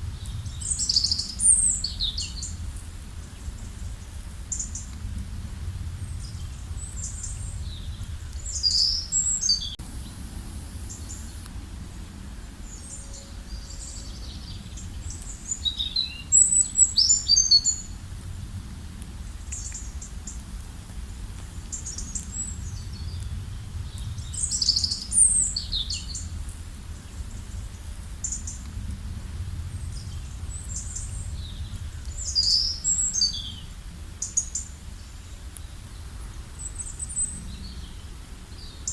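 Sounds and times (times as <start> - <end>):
low rumble: 0.0 - 34.2
birds chirping: 0.1 - 4.9, 6.0 - 10.2, 10.8 - 18.0, 21.7 - 28.6, 29.7 - 38.9.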